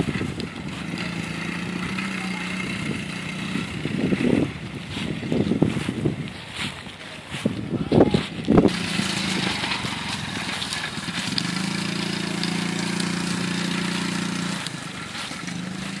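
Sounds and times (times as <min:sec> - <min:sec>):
dirt bike engine running: 0:00.0 - 0:16.0
wind on microphone: 0:00.0 - 0:16.0.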